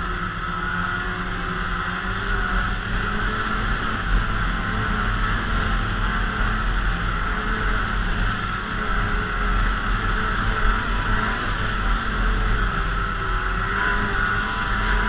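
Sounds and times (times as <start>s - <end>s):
snowmobile engine and track running: 0.0s - 15.0s.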